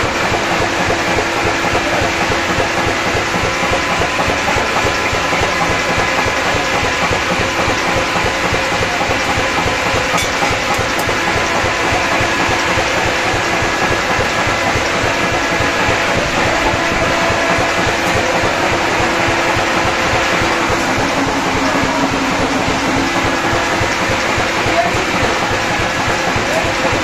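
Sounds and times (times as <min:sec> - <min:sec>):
forge blower running: 0:00.0 - 0:27.0.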